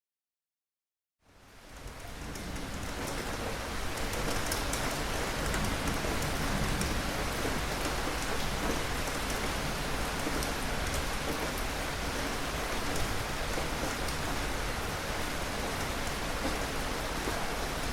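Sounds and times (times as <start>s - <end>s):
steady rain falling: 1.2s - 17.9s.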